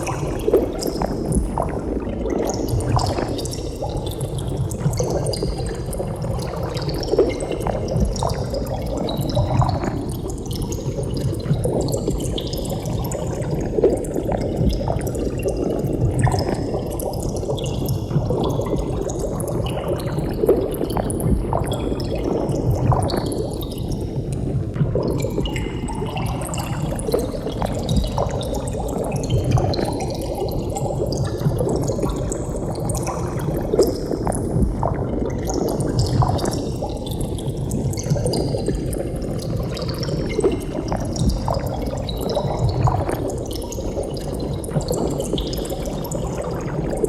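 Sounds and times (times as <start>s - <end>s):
water bubbling: 0.0s - 47.0s.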